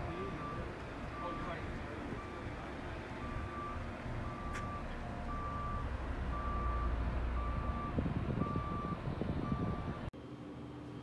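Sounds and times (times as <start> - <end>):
reversing alarm beeping: 0.1 - 2.6, 3.2 - 10.1.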